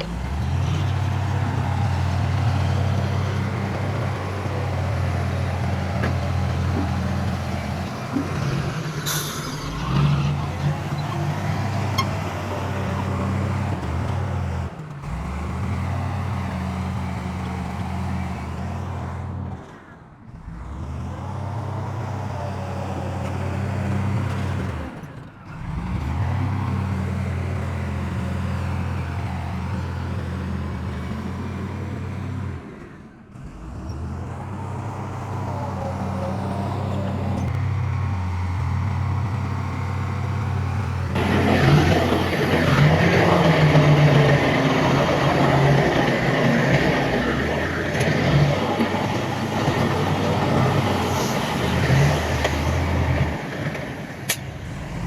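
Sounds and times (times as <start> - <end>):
diesel machinery engine droning: 0.0 - 55.0.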